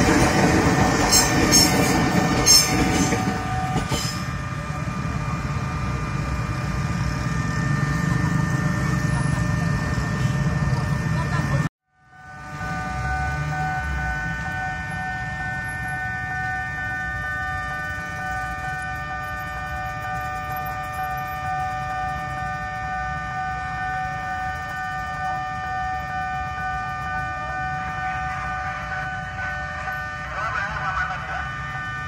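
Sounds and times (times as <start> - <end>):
level crossing alarm tone: 0.0 - 32.0
low traffic rumble: 0.0 - 32.0.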